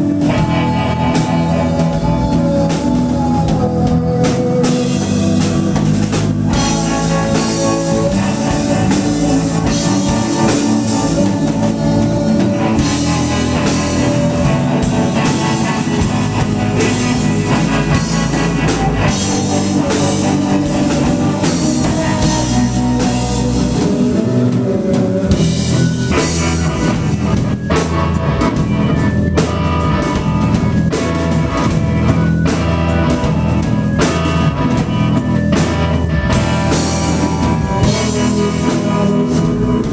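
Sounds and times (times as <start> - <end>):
bass guitar: 0.0 - 39.9
drum kit: 0.0 - 39.9
electric guitar: 0.0 - 39.9
keyboards: 0.0 - 39.9.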